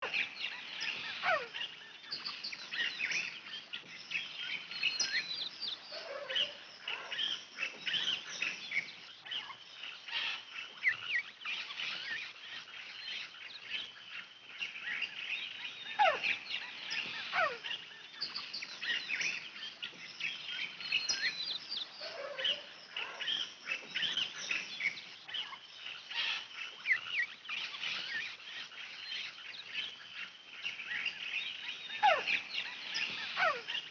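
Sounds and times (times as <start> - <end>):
birds chirping chorus: 0.0 - 33.9.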